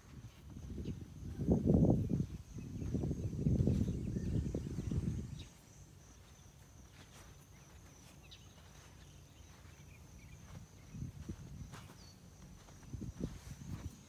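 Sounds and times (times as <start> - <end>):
high insect drone: 0.0 - 14.0
faint bird chirps: 0.8 - 12.8.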